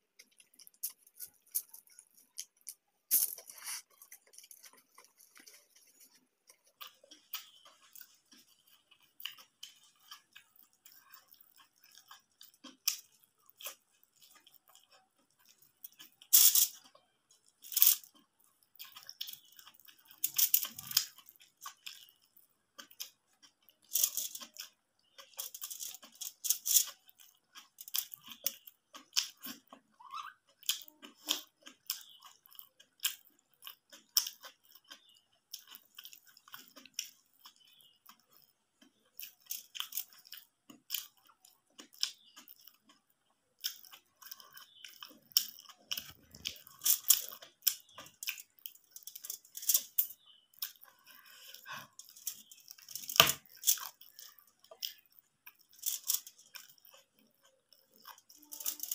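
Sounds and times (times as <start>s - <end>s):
wet chewing and crunching: 0.0s - 58.9s.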